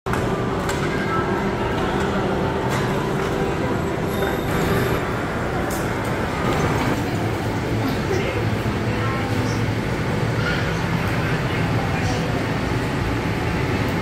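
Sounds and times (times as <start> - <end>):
indistinct crowd voices: 0.1 - 14.0.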